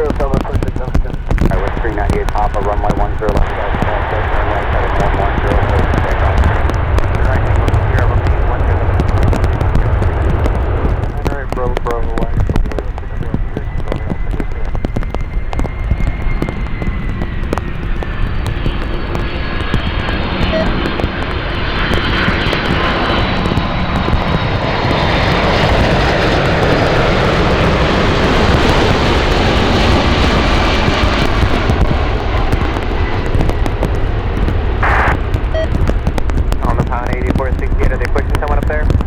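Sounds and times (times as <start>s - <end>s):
high engine whine: 0.0s - 38.6s
jet engines rumbling: 0.0s - 39.0s.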